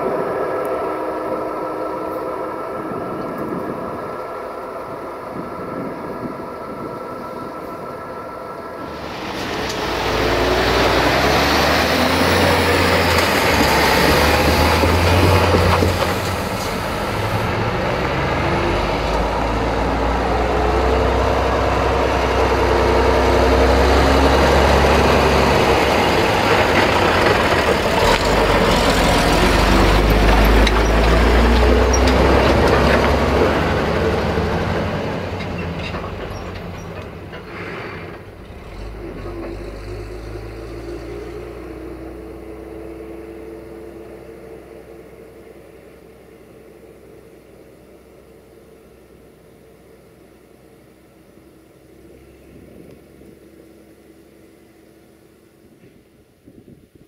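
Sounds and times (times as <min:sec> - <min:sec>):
heavy trucks driving past: 0:06.2 - 0:56.1.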